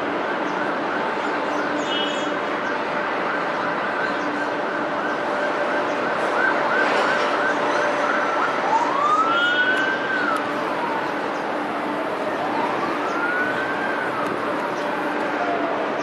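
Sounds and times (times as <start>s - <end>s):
emergency vehicle siren: 0.0s - 16.0s.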